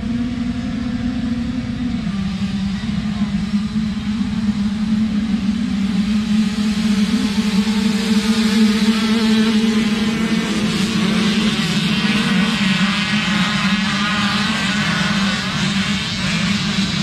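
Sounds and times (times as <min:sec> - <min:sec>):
low engine drone: 0:00.0 - 0:17.0
motocross bikes revving: 0:00.0 - 0:17.0.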